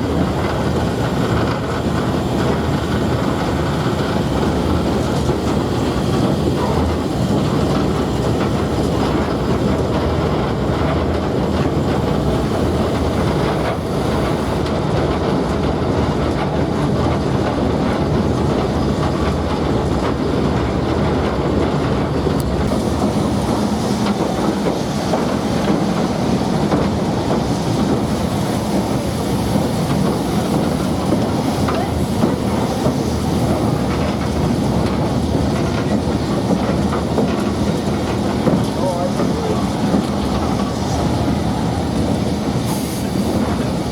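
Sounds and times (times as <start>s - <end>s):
train running: 0.0s - 43.9s
wheels clacking over rails: 0.0s - 43.9s.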